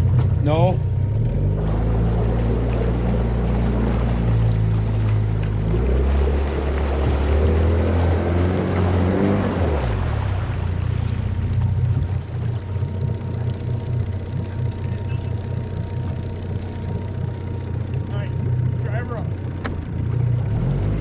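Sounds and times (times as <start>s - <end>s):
motorboat engine running: 0.0s - 21.0s
rushing water: 1.4s - 21.0s.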